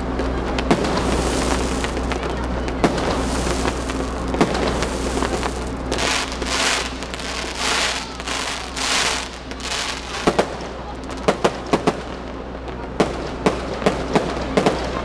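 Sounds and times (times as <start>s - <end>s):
fireworks crackling: 0.0s - 15.0s
loud firework hissing: 0.0s - 15.0s
sharp firework bangs: 0.2s - 15.0s.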